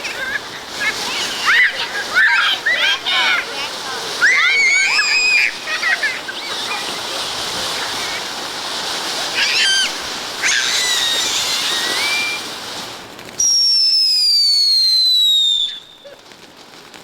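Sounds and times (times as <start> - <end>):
firework hissing: 0.0 - 17.0
firework whistling: 0.0 - 17.0.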